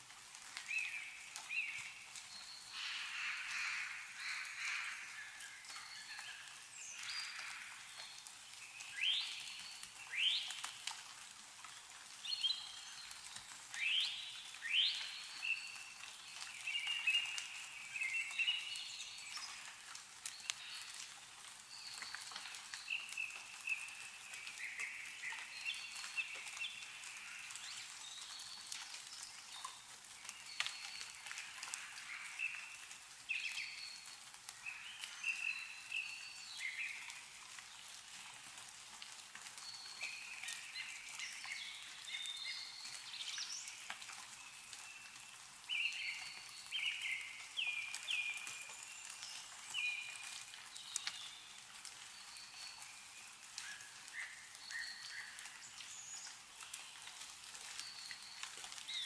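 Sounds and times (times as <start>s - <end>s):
meltwater dripping from trees: 0.0s - 59.0s.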